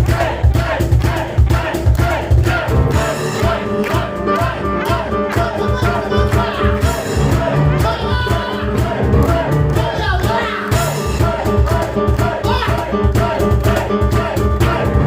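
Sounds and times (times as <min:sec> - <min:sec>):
cajon beat: 0:00.0 - 0:15.0
piano notes: 0:02.6 - 0:15.0.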